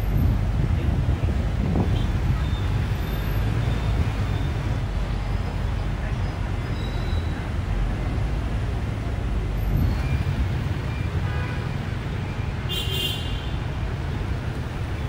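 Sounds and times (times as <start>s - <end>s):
bus rumbling: 0.0s - 12.8s, 13.5s - 15.0s
city traffic: 0.0s - 15.0s.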